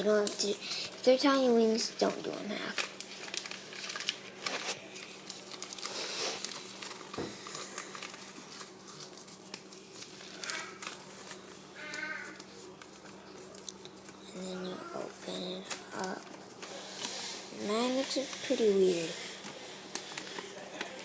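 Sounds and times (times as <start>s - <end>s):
paper being folded and creased: 1.2s - 21.0s.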